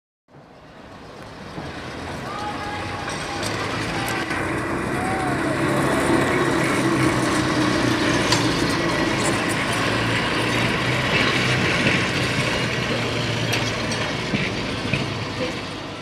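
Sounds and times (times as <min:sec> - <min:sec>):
streetcar rolling on rails: 0:00.3 - 0:16.0
sharp clicks of wheels: 0:01.1 - 0:15.8.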